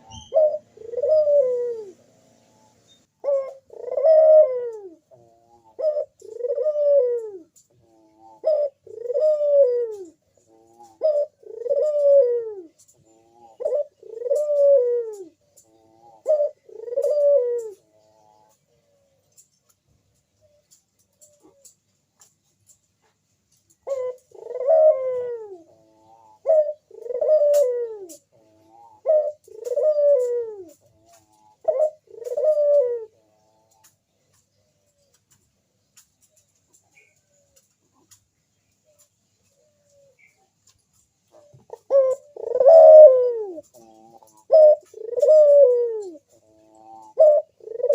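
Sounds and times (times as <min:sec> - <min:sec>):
dove cooing: 0:00.0 - 0:19.5, 0:23.8 - 0:35.4, 0:38.8 - 0:47.9.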